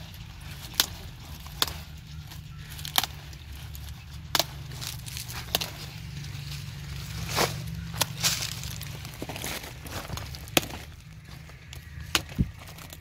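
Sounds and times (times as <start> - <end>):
cauliflower stalks snapping: 0.0 - 13.0
steady low rumble: 0.0 - 13.0.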